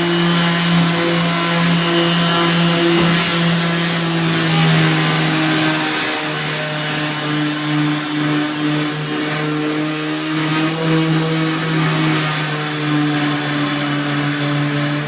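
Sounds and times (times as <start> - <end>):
power sander on metal: 0.0 - 15.0.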